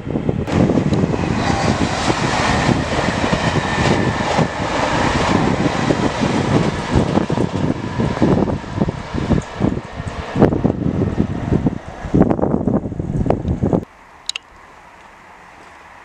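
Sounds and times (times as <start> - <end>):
wind buffeting microphone: 0.0 - 13.9
train wheels rushing over rails: 0.1 - 13.8.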